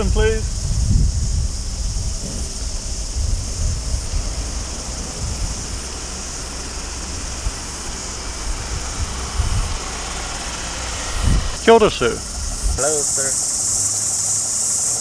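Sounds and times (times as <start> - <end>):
wind buffeting microphone: 0.0 - 14.8
car driving slowly: 0.0 - 15.0
high insect chirr: 0.0 - 15.0.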